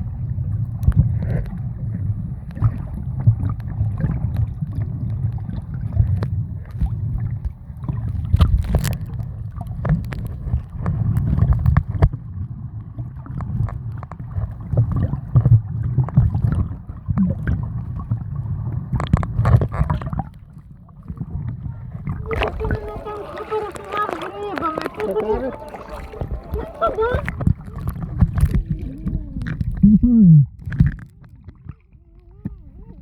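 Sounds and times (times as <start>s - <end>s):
muffled churning water: 0.0s - 33.0s
crackles and knocks: 0.6s - 23.0s, 23.7s - 31.8s.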